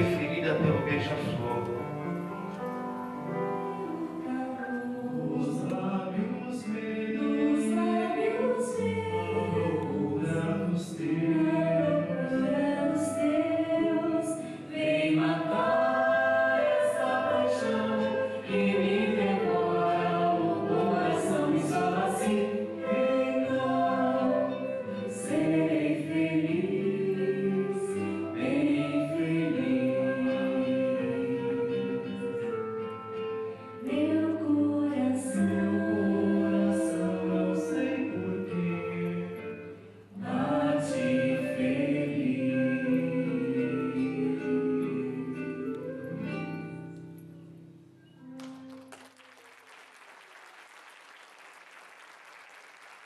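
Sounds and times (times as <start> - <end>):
vocal ensemble singing in harmony: 0.0 - 47.0.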